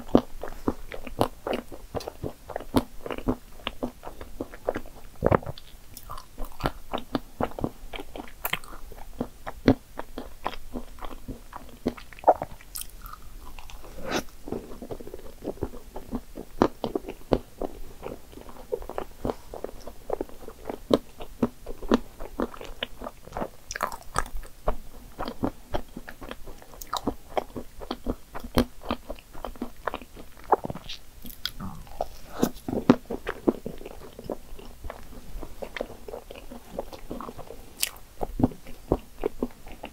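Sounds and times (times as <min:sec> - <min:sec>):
chewing and biting pastry: 0:00.0 - 0:39.9.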